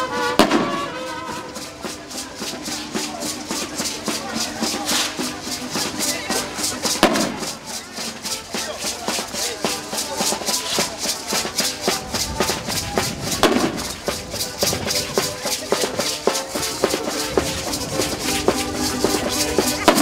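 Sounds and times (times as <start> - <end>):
drum: 0.0 - 20.0
pitched instrument tune: 0.0 - 20.0
rattles shaken rhythmically: 0.0 - 20.0.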